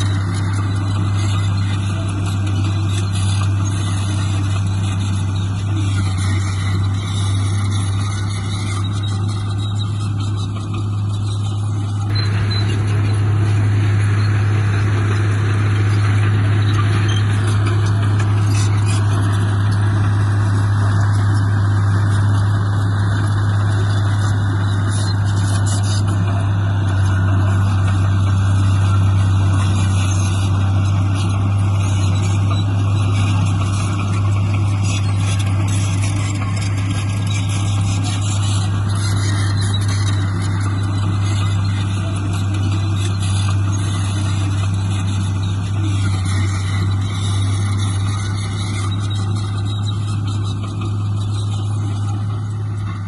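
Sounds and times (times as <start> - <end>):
heavy diesel engine humming: 0.0 - 53.0.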